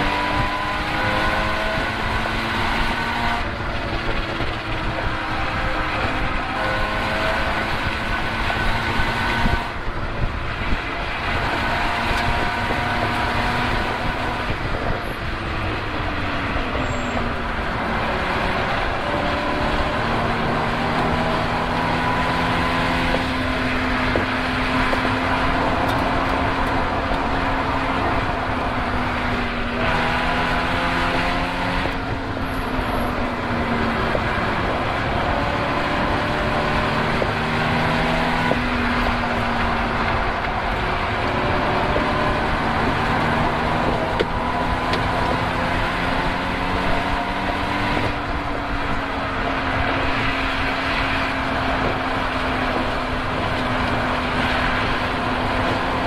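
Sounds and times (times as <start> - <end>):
race car engine: 0.0 - 56.0
steady rushing noise: 0.0 - 56.0.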